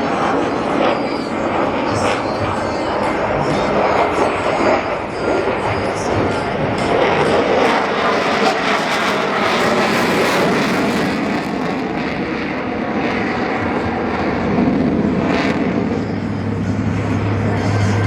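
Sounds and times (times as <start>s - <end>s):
fighter jet flying past: 0.0s - 18.0s.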